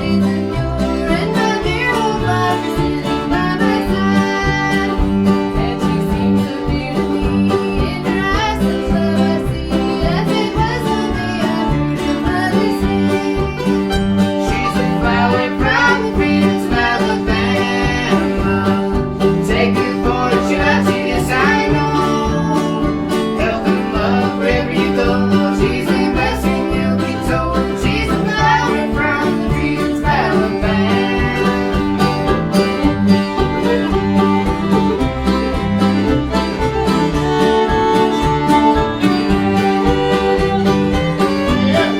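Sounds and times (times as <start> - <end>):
banjo picking: 0.0 - 41.9
string band playing: 0.0 - 41.9.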